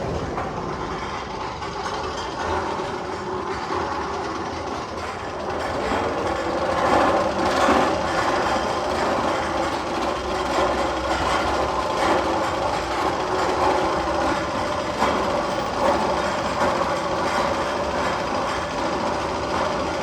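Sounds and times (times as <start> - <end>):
mechanical rumble over loudspeakers: 0.0 - 20.0.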